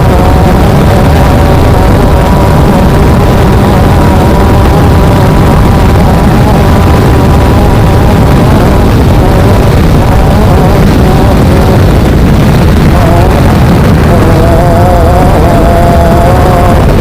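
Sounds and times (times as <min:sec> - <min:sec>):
race vehicle engine at high revs: 0:00.0 - 0:17.0.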